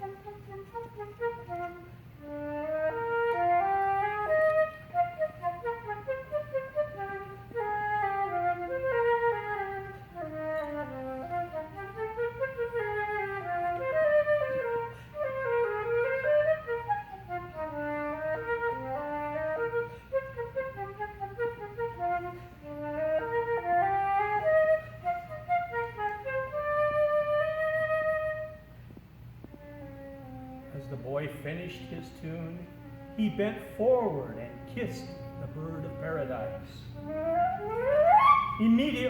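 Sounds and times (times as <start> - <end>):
solo flute melody: 0.0 - 39.0.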